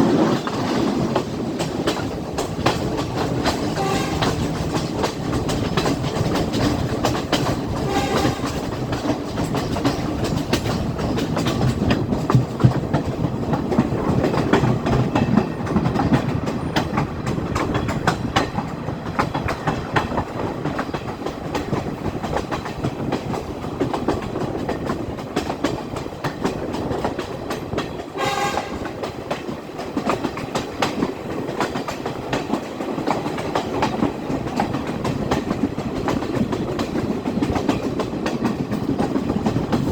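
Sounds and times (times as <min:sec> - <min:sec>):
train rumbling: 0:00.0 - 0:39.9
wheels clicking over rail joints: 0:00.0 - 0:39.9.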